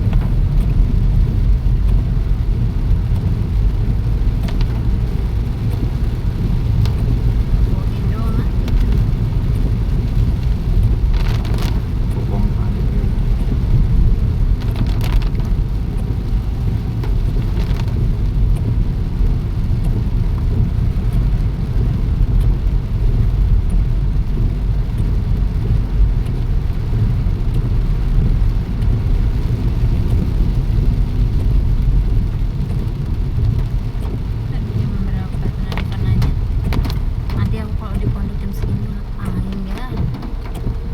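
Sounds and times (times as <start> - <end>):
heavy rain: 0.0 - 40.9
raindrop ticks: 0.0 - 40.9.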